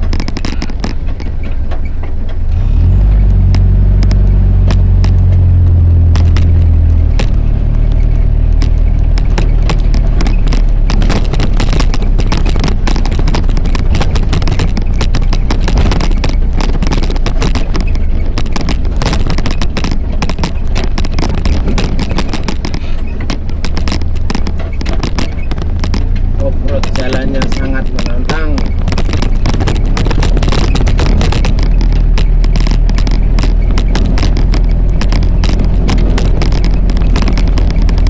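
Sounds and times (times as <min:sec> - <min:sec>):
knocks and rattles: 0:00.0 - 0:38.0
vehicle engine running: 0:00.0 - 0:38.0.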